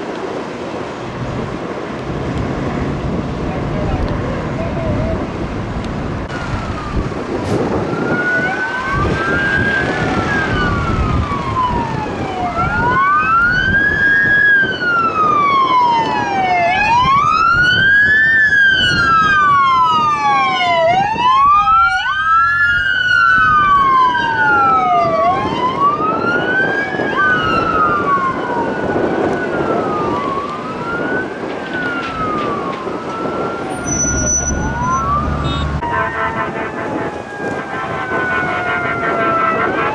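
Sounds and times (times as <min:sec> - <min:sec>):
engine and tyre noise: 0:00.0 - 0:39.9
siren wailing: 0:06.3 - 0:39.9.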